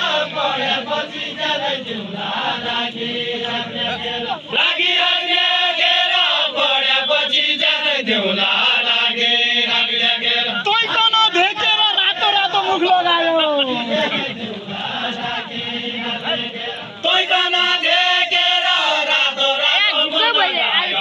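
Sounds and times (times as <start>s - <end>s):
voices singing a chant-like melody: 0.0s - 21.0s.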